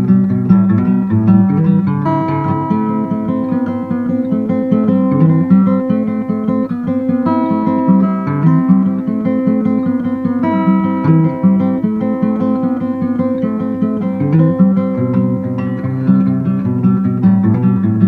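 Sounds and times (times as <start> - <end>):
acoustic guitar tune: 0.0 - 18.0.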